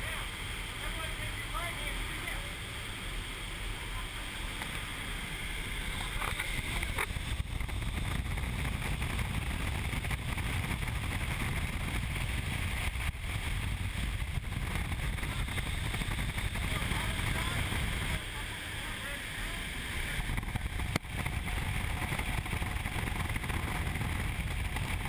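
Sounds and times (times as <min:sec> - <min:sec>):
wind tunnel airflow rushing: 0:00.0 - 0:25.0.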